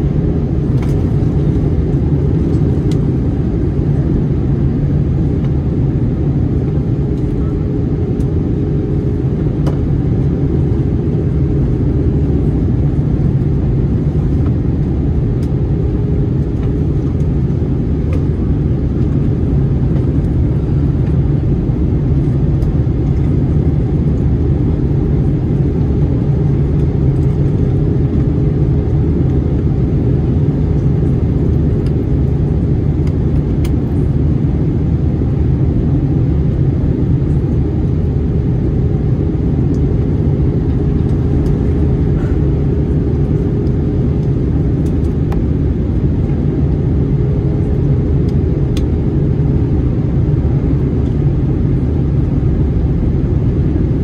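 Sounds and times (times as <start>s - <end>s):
airflow and jet engines: 0.0s - 54.0s
airplane cabin rumble: 0.0s - 54.0s
faint steady hum: 0.0s - 54.0s.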